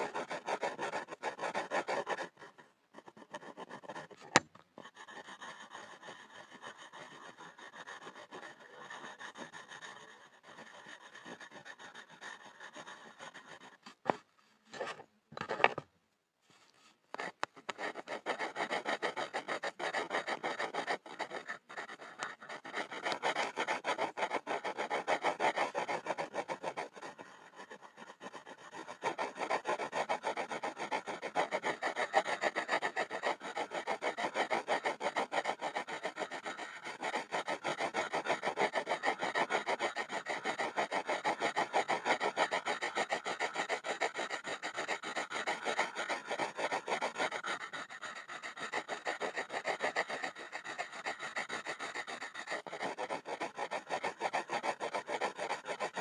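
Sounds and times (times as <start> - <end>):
pencil scribbling on wood: 0.0 - 15.8, 16.5 - 56.0.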